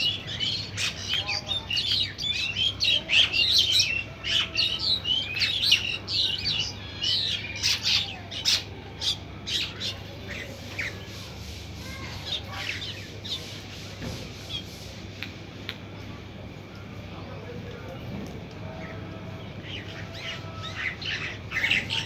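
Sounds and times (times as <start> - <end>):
birds chirping: 0.0 - 15.2, 18.6 - 22.0.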